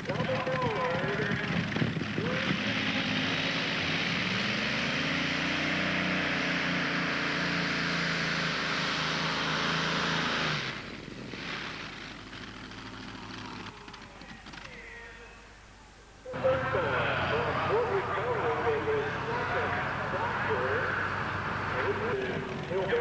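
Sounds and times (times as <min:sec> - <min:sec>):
tractor engine exhaust roar: 0:00.0 - 0:14.7, 0:16.2 - 0:23.0.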